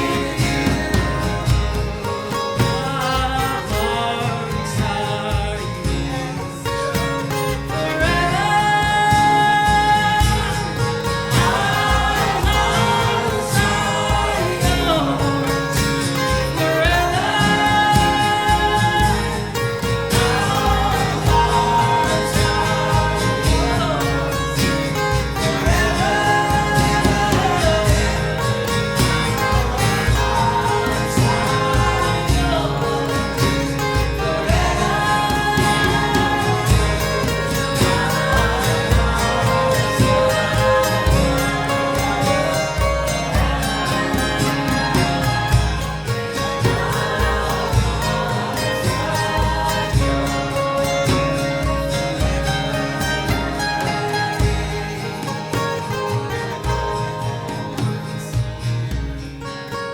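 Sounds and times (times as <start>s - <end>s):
guitar: 0.0s - 59.9s
person singing: 0.0s - 59.9s.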